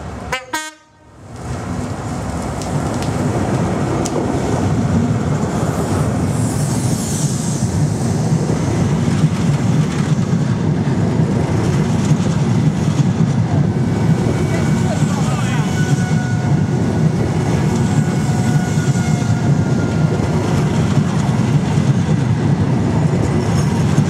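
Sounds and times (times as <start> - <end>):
diesel locomotive engine: 0.0 - 24.0
train coaches rumbling on track: 0.0 - 24.0.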